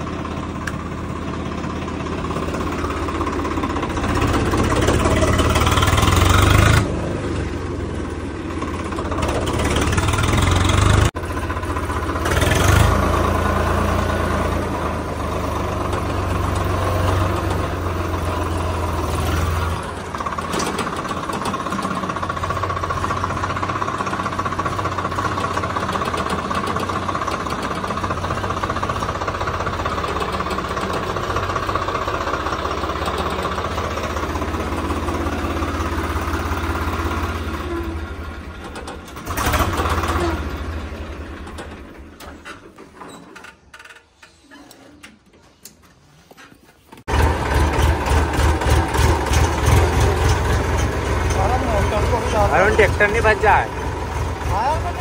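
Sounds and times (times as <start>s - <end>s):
tractor diesel engine revving: 0.0s - 43.0s, 47.0s - 55.0s.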